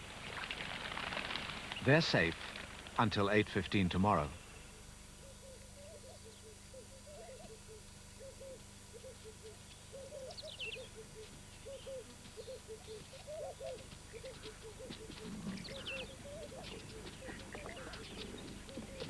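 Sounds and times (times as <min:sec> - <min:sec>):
birds calling short low notes: 0:03.0 - 0:19.0.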